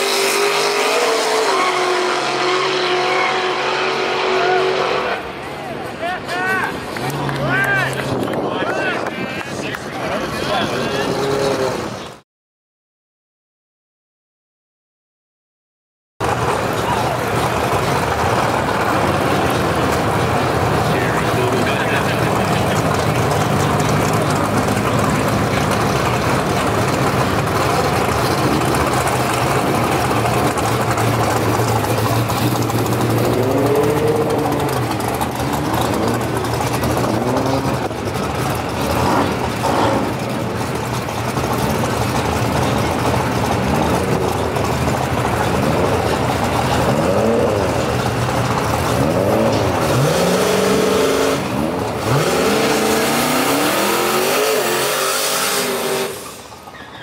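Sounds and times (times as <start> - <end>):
car engines droning: 0.0 - 12.2, 16.2 - 57.0
car engines revving: 0.0 - 12.2, 16.2 - 57.0.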